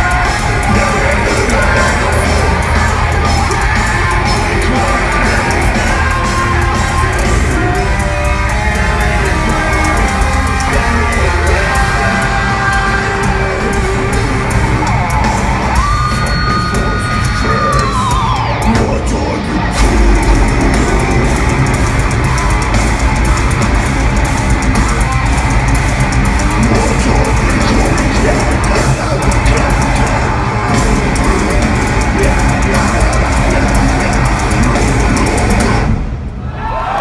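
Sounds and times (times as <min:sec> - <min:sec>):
fast driving drums: 0:00.0 - 0:36.3
distorted guitars: 0:00.0 - 0:37.0.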